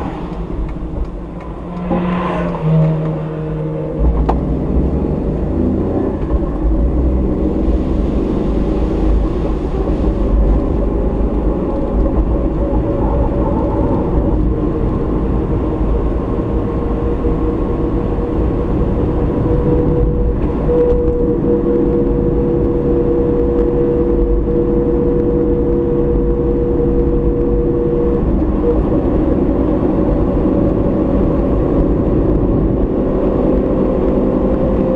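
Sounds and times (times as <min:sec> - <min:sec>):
car engine and tyres rumble: 0:00.0 - 0:34.9
engine tone: 0:00.0 - 0:34.9.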